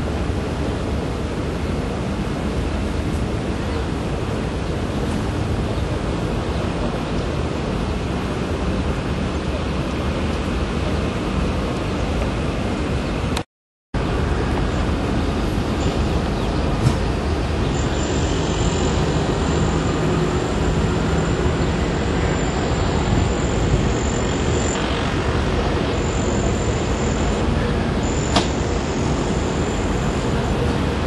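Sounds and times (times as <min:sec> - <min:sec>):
boat engines droning: 0:00.0 - 0:13.4, 0:14.0 - 0:31.0
wind: 0:00.0 - 0:31.0.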